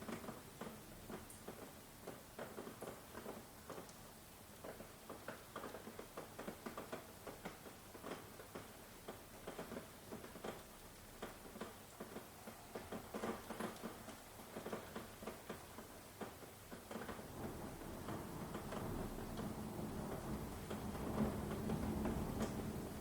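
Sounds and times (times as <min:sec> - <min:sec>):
rain dripping and pattering: 0:00.0 - 0:23.0.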